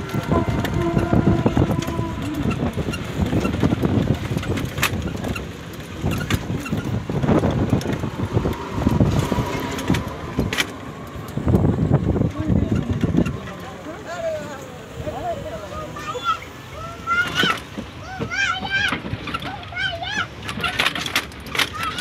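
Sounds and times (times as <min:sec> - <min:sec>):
motor vehicle running: 0:00.0 - 0:22.0.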